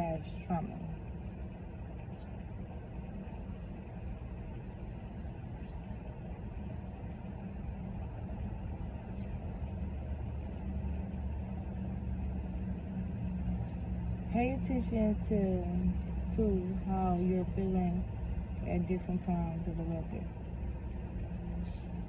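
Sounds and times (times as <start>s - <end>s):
low hum: 0.0s - 22.0s
vehicle rumble: 0.0s - 22.0s.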